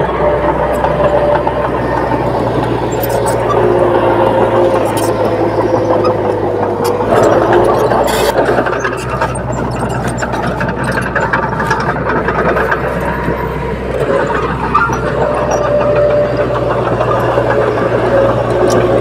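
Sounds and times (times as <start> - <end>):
bulldozer diesel engine running: 0.0 - 19.0
steel tracks clanking: 0.0 - 19.0.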